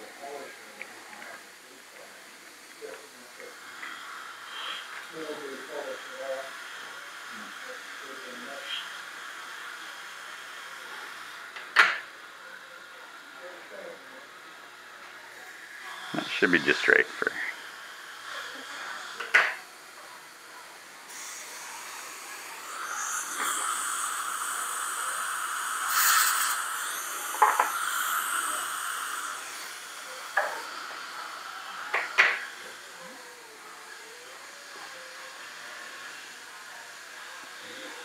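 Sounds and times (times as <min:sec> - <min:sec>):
dental suction hiss: 0:03.4 - 0:12.1, 0:14.3 - 0:38.0.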